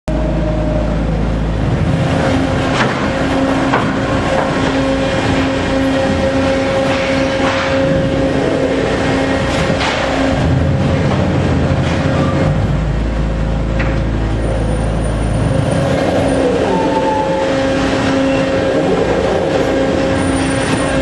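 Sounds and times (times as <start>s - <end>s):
machine drive humming: 0.1s - 21.0s.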